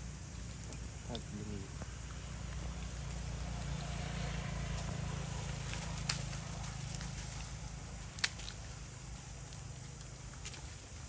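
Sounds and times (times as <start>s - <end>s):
small ticks: 0.0s - 11.0s.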